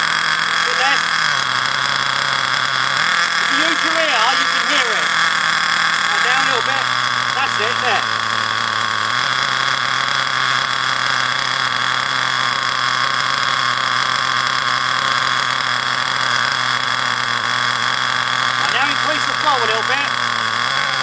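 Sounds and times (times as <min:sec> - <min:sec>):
model engine high-pitched whine: 0:00.0 - 0:21.0.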